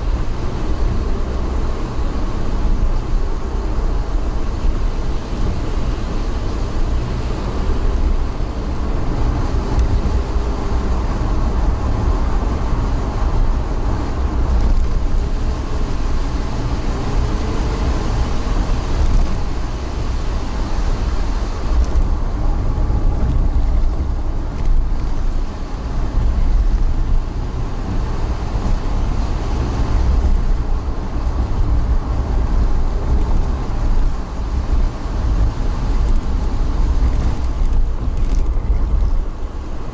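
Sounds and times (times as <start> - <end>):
vehicle rumbling in motion: 0.0 - 39.9.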